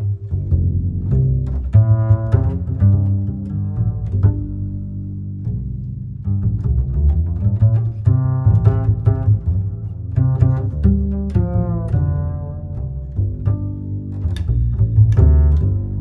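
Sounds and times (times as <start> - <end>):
low bass notes: 0.0 - 16.0.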